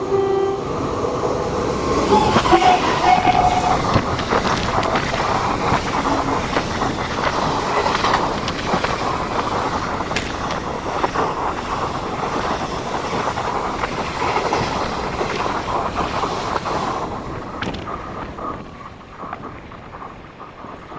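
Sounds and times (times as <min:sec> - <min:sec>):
train wheels rumbling on rails: 0:00.0 - 0:20.9
sharp clicks of train wheels: 0:04.0 - 0:20.9.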